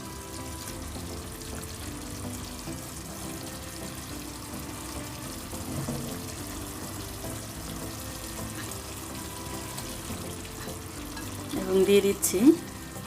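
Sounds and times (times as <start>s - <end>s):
sauce sizzling and bubbling in pan: 0.0s - 13.0s.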